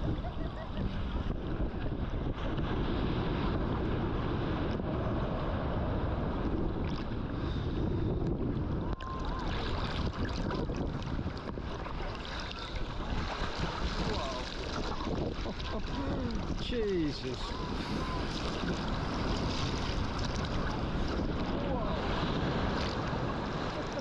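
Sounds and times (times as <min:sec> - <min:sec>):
ocean surf breaking: 0:00.0 - 0:24.0
wind buffeting microphone: 0:00.0 - 0:24.0.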